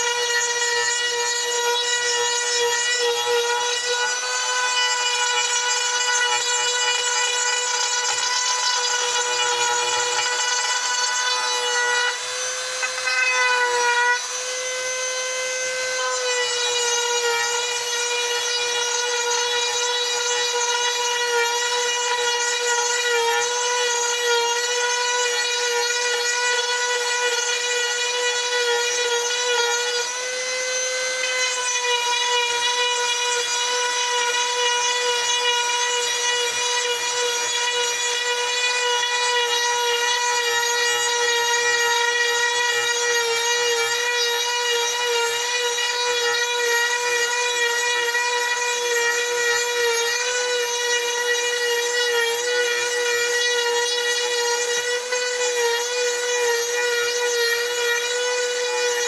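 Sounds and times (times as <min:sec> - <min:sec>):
rotary carving tool whining: 0:00.0 - 0:59.0.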